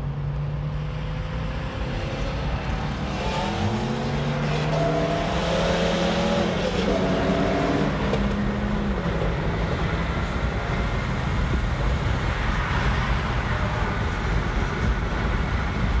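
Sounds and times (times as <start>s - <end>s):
engine hum: 0.0s - 16.0s
tyre and wind rumble: 1.2s - 16.0s.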